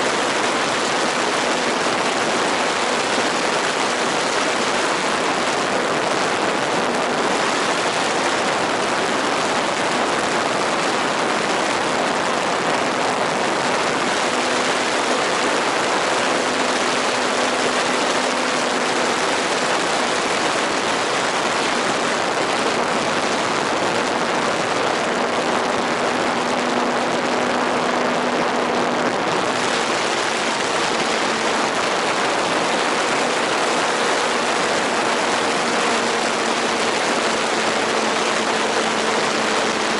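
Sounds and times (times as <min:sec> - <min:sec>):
model airplane motor droning: 0:00.0 - 0:39.9.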